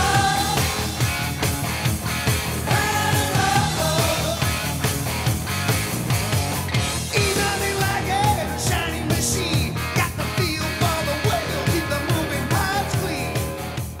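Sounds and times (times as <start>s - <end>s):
rock song with sung vocal: 0.0s - 14.0s
steady drum beat: 0.0s - 14.0s.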